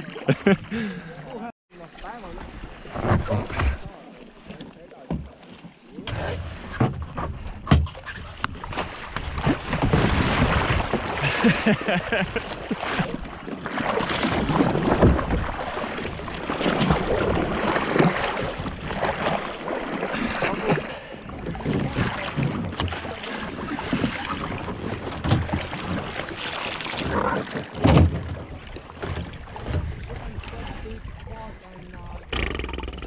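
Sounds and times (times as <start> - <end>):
water splashing and sloshing: 0.0 - 33.0.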